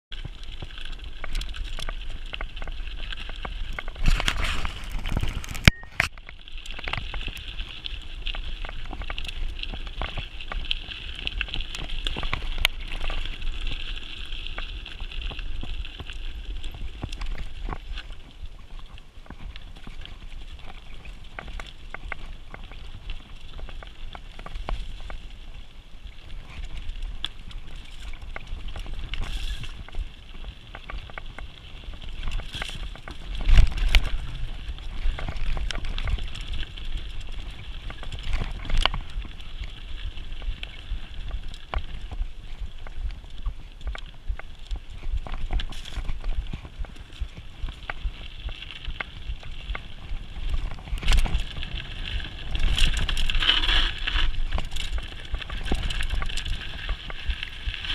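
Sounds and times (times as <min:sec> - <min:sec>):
bike rattling: 0:00.1 - 0:57.9
bike tyres crunching over gravel: 0:00.1 - 0:57.9
low rumble of wind: 0:00.1 - 0:57.9.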